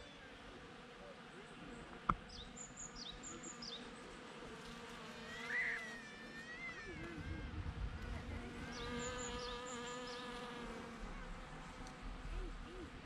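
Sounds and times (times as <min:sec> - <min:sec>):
honeybees buzzing: 0:00.2 - 0:13.0.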